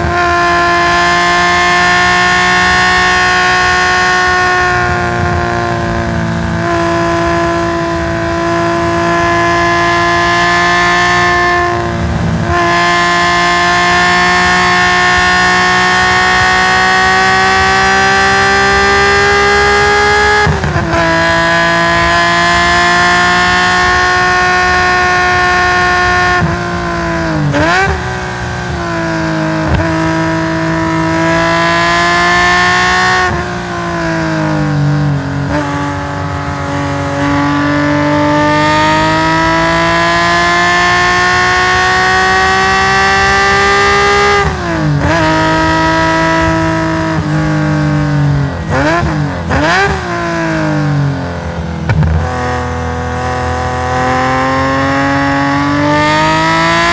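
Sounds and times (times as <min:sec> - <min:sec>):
engine throttle blips: 0:00.0 - 0:56.9
race car engine at high revs: 0:00.0 - 0:56.9.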